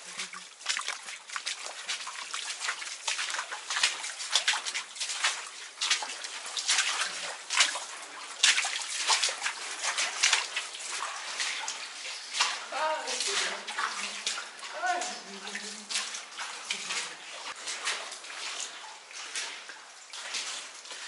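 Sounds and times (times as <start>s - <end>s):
boots splashing through shallow water: 0.0s - 21.0s.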